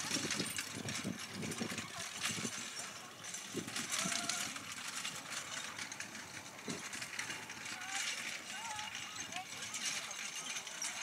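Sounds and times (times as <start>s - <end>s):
carriage and harness rattling: 0.0s - 11.0s.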